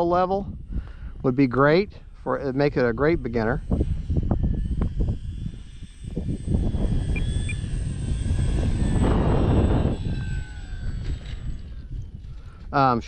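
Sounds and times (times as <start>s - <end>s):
model plane motor whining: 0.0s - 13.0s
wind buffeting microphone: 0.0s - 13.0s.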